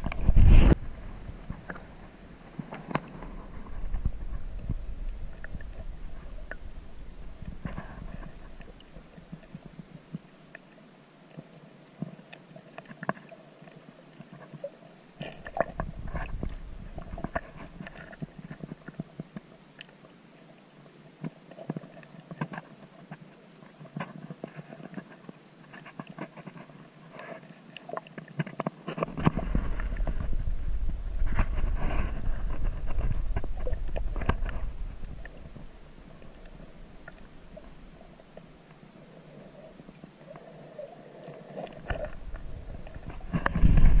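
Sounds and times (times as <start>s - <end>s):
low rumbling water movement: 0.0s - 44.0s
underwater clicks and crackles: 0.0s - 44.0s.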